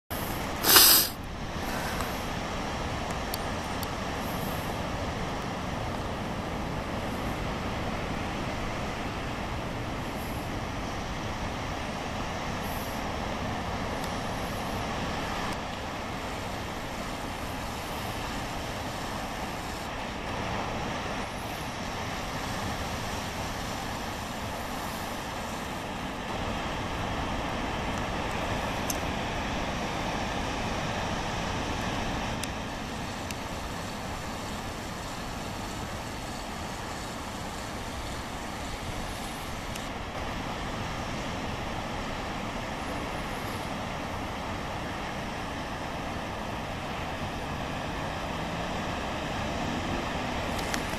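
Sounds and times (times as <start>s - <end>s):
ocean surf breaking against rocks: 0.2s - 50.9s.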